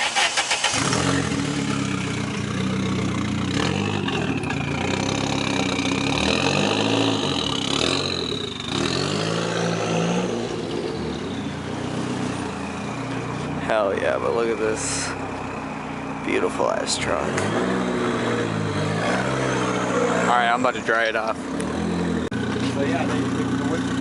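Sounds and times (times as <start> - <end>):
car engine revving: 0.0 - 24.0
high engine whine: 0.1 - 24.0.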